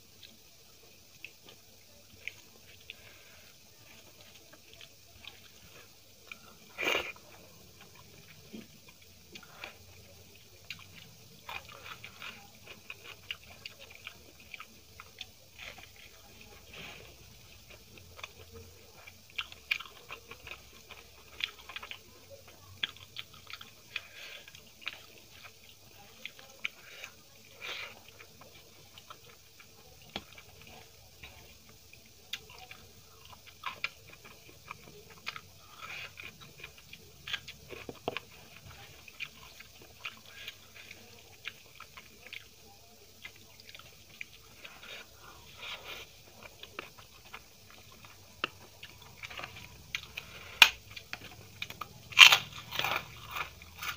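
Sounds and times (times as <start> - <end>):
person chewing and crunching food: 0.0 - 53.9.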